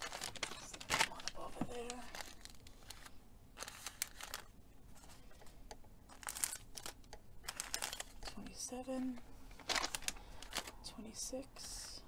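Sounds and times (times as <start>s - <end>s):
paper bags rustling: 0.0s - 5.3s, 6.1s - 10.8s.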